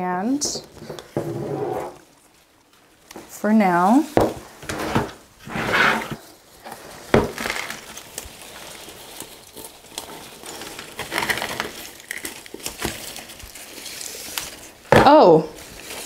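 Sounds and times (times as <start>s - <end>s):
rustling of leaves and pot: 0.0s - 16.0s.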